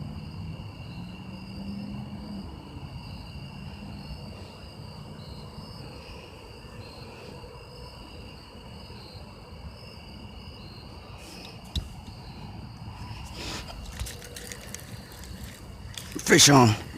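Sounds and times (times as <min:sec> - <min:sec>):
insects chirring: 0:00.0 - 0:16.9
low outdoor rumble: 0:00.0 - 0:16.9.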